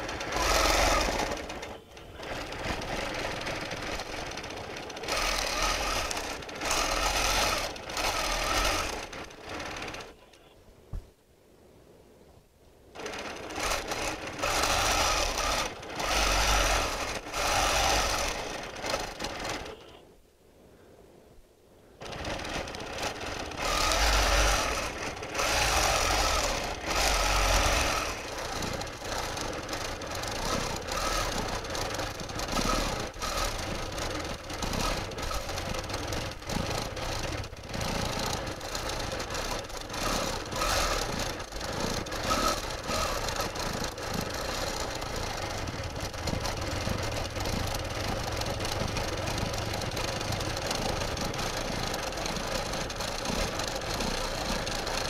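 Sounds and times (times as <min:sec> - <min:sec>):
quilting machine stitching: 0:00.0 - 0:10.2, 0:13.0 - 0:20.0, 0:22.0 - 0:55.0.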